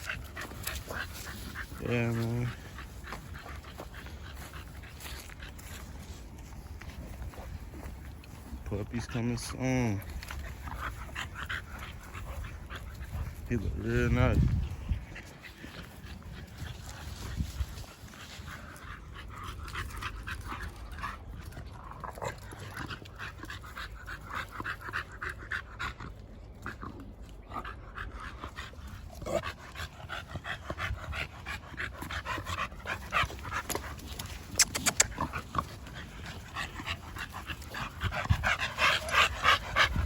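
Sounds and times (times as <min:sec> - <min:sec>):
dog panting: 0:00.0 - 0:40.0.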